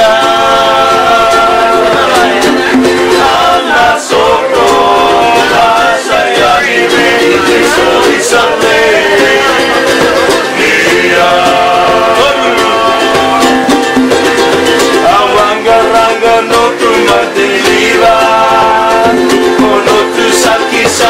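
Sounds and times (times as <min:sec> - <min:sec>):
acoustic guitar: 0:00.0 - 0:21.0
men singing together: 0:00.0 - 0:21.0
strummed ukulele: 0:00.0 - 0:21.0.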